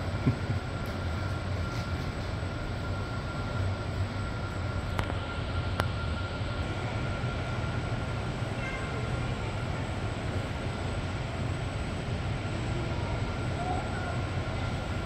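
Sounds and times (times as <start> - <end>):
low hum of indoor hall: 0.0 - 15.0
faint thin whine: 0.8 - 15.0.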